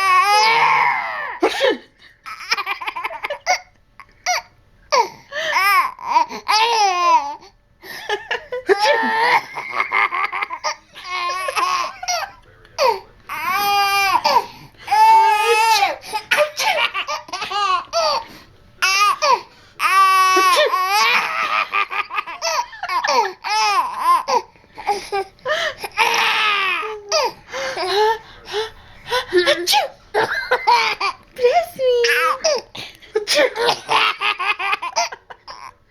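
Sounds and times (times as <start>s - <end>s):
baby laughing hysterically: 0.0s - 4.5s, 5.5s - 28.2s, 29.1s - 35.8s.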